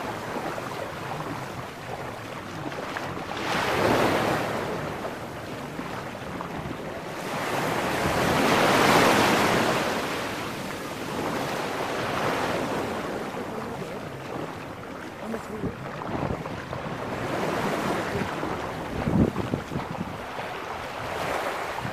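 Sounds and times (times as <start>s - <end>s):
small waves washing on sand: 0.0s - 21.9s.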